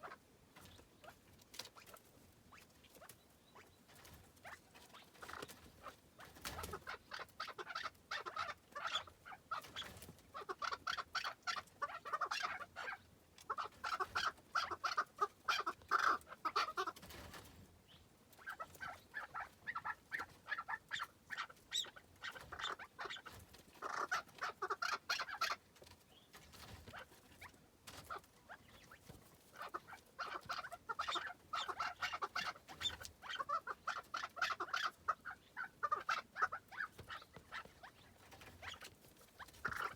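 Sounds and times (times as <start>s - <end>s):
partridge clucking calls: 0.0s - 39.9s.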